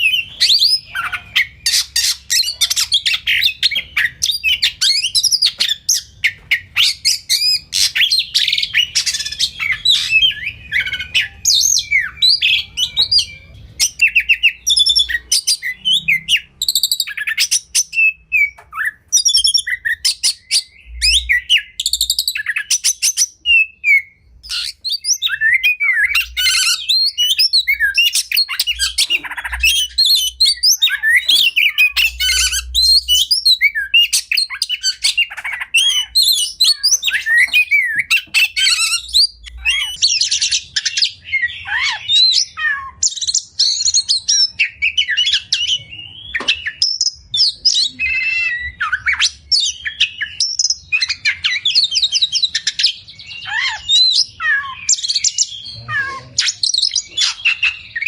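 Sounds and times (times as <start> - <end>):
songbird singing chirps and trills: 0.0 - 58.0.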